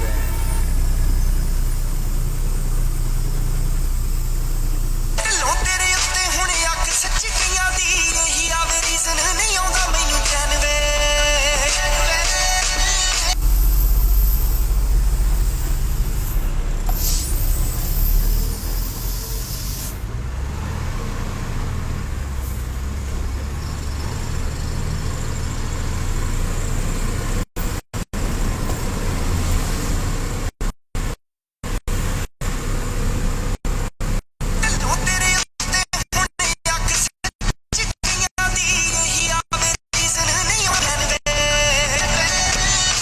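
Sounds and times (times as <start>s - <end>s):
truck engine and road rumble: 0.0s - 43.0s.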